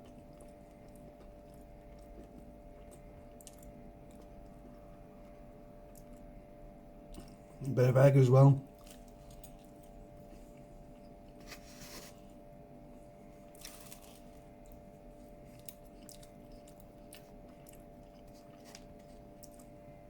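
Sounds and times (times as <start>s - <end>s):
chewing and crunching: 0.0s - 6.4s, 7.0s - 7.7s, 8.6s - 20.0s
faint hum: 0.0s - 20.0s.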